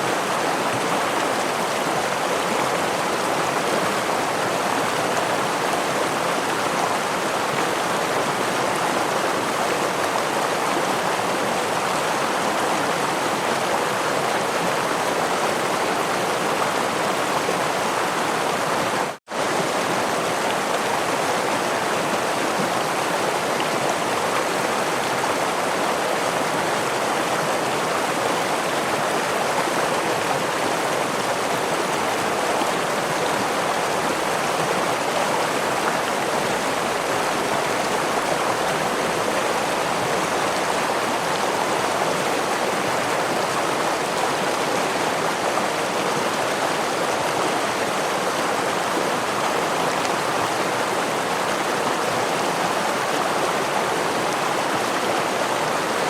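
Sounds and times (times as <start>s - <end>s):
stream and small waterfall rushing: 0.0s - 56.0s.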